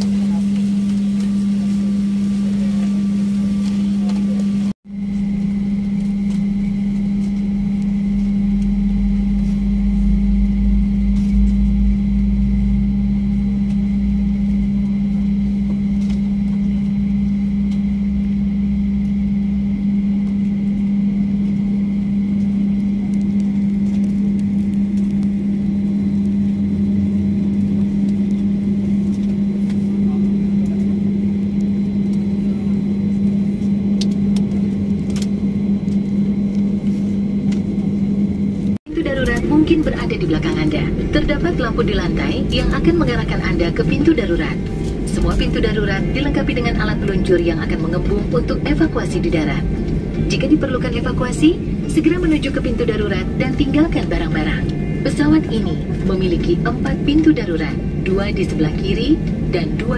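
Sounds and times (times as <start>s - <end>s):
airliner cabin engine hum: 0.0s - 59.9s
deep rumble: 0.0s - 59.9s.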